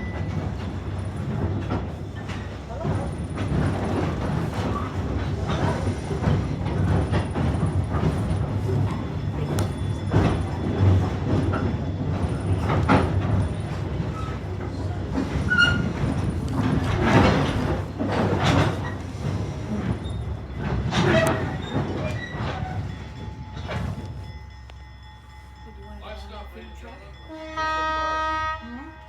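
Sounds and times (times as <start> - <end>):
wheels clacking over rail joints: 0.0 - 25.0
train wheels rumbling on rail: 0.0 - 29.0.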